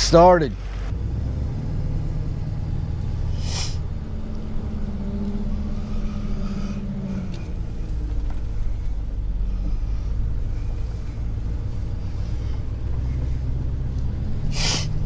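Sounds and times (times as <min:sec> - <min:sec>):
truck engine and road drone: 0:00.0 - 0:15.0.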